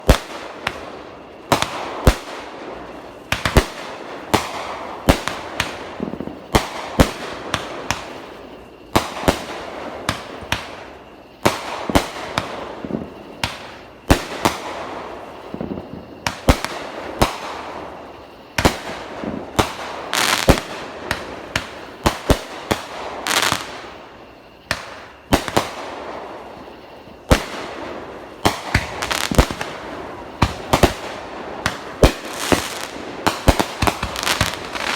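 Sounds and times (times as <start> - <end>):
firework crackling: 0.0 - 34.9
fireworks bangs: 0.0 - 34.9.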